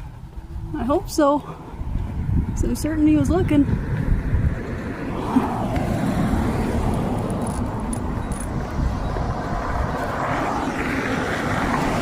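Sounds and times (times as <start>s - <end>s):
car passing: 0.0s - 12.0s
low traffic rumble: 0.0s - 12.0s.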